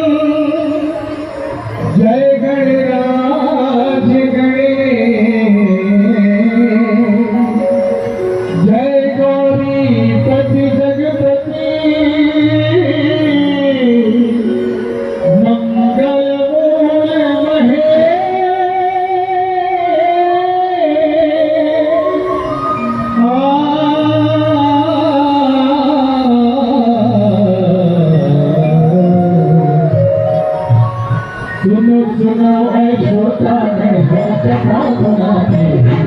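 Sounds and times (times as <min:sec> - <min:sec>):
instrumental accompaniment: 0:00.0 - 0:36.0
person singing long held notes: 0:00.0 - 0:36.0.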